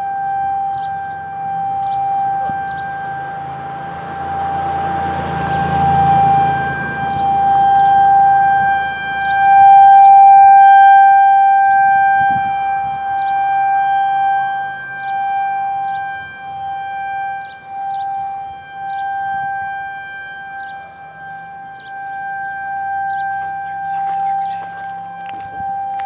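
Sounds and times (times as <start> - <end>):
rotating warning siren: 0.0 - 26.0.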